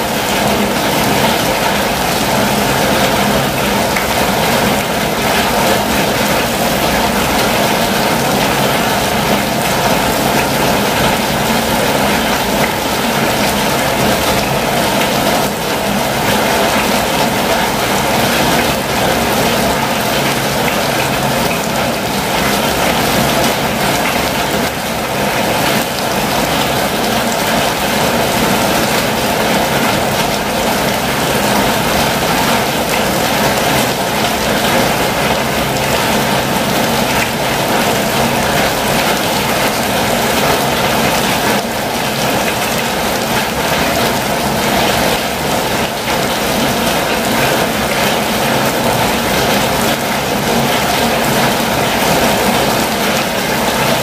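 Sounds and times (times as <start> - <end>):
heavy rain on vehicle roof: 0.0 - 54.0.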